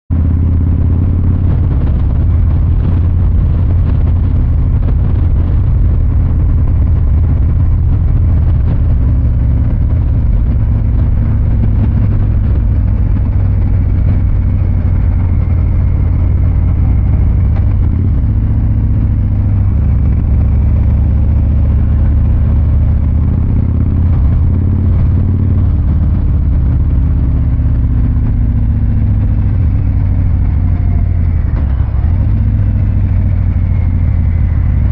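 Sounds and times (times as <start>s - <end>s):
motorcycle engine rumbling: 0.1s - 34.9s.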